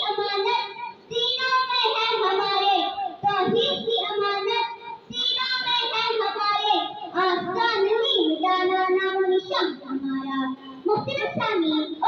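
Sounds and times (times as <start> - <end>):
boy singing: 0.0 - 12.0.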